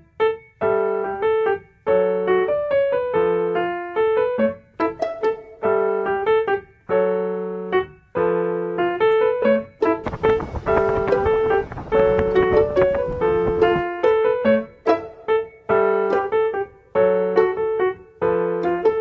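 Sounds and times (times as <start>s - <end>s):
solo piano melody: 0.0s - 19.0s.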